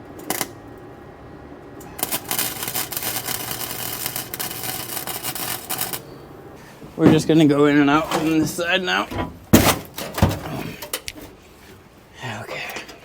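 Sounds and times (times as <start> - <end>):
welding arc crackling: 0.0 - 11.2.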